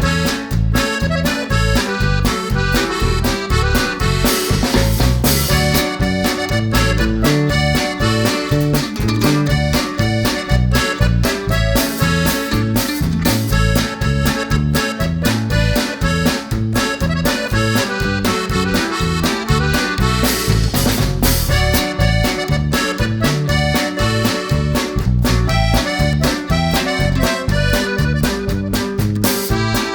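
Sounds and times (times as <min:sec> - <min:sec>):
accordion music with bouncing bass: 0:00.0 - 0:29.9.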